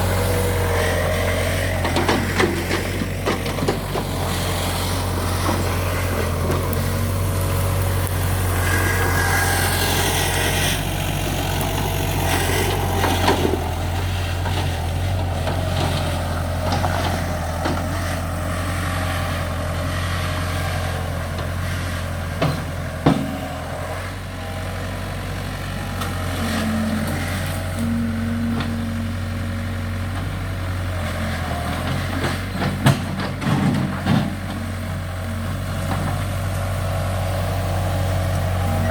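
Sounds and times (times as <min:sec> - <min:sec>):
diesel engine running under load: 0:00.0 - 0:38.9
high engine whine: 0:00.0 - 0:38.9.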